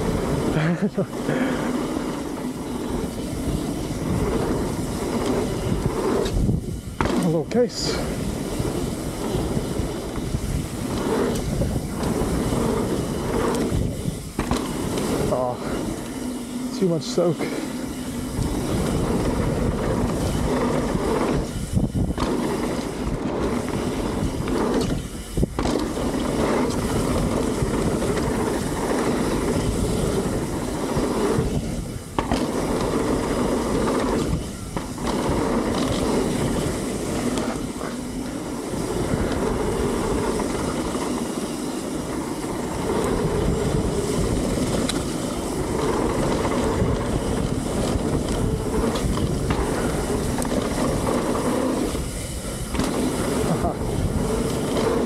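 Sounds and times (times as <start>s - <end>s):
bike rattling: 0.0s - 55.0s
tyres rumbling over dirt: 0.0s - 55.0s.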